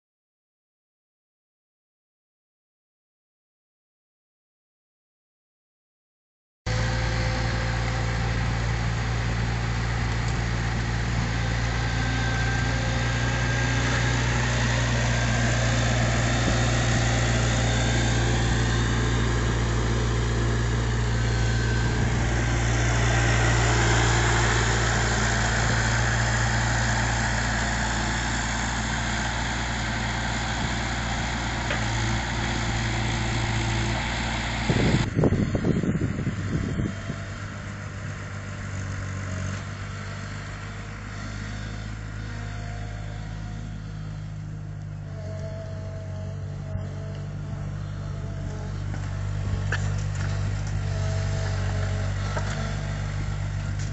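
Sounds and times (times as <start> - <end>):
diesel engine running: 6.7 - 53.9.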